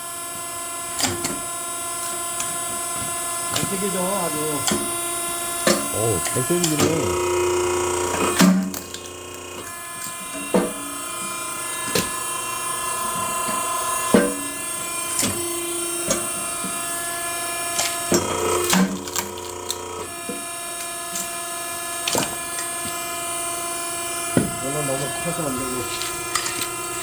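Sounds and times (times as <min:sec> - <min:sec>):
log splitter motor droning: 0:00.0 - 0:27.0.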